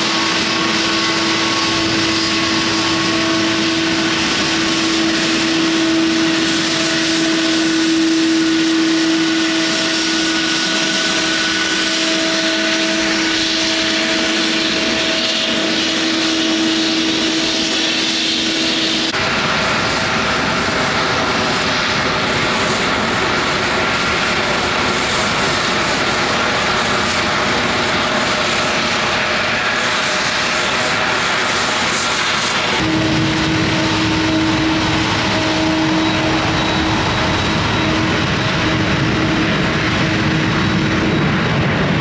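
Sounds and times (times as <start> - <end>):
airliner engines whining: 0.0 - 42.0.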